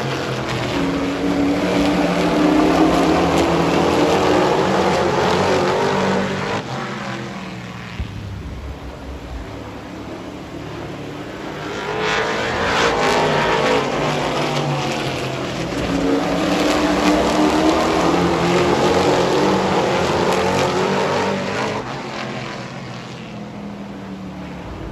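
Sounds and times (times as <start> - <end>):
race truck engines at speed: 0.0 - 24.9.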